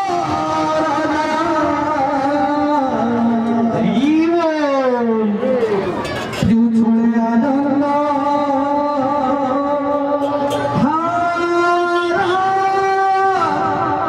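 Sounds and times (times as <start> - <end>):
man singing long notes: 0.0 - 14.0.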